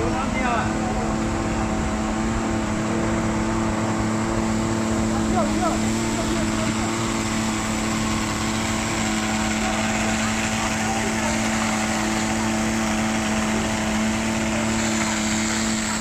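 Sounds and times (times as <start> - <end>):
hose water jets hissing: 0.0 - 16.0
motor humming steadily: 0.0 - 16.0.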